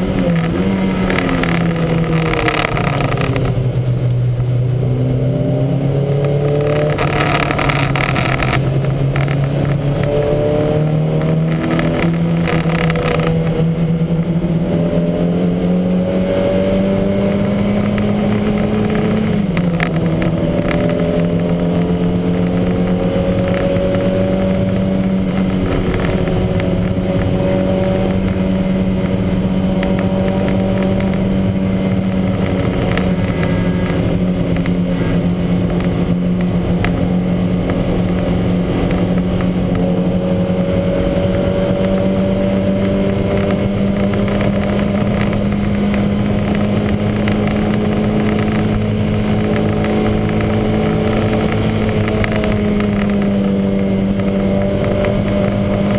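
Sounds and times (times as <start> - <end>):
gear change: 0.0 - 55.9
race car engine under load: 0.0 - 55.9.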